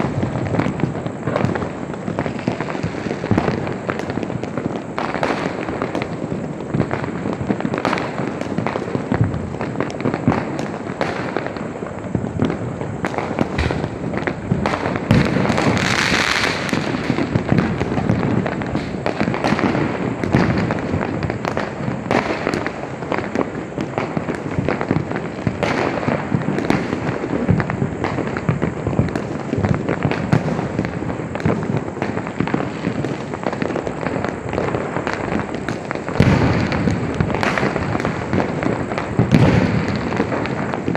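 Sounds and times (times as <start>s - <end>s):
fireworks banging and crackling: 0.0s - 40.9s
hissing firework burst: 0.0s - 40.9s.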